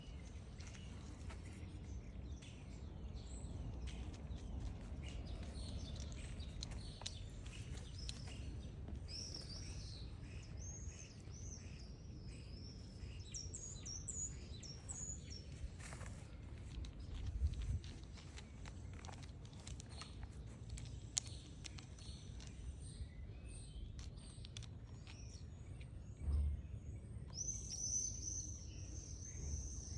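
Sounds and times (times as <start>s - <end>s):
low outdoor rumble: 0.0s - 27.7s
small birds chirping: 0.0s - 29.9s.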